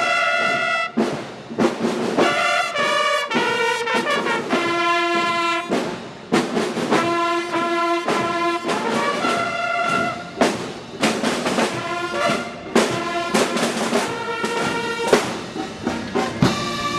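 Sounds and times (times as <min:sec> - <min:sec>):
bugles playing held notes: 0:00.0 - 0:01.3, 0:02.1 - 0:16.9
sharp drum strikes: 0:00.0 - 0:16.9.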